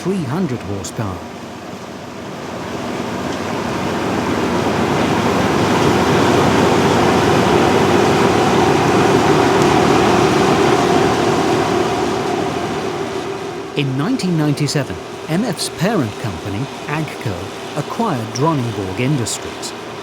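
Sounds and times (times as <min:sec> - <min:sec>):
combine harvester droning: 0:00.0 - 0:20.0.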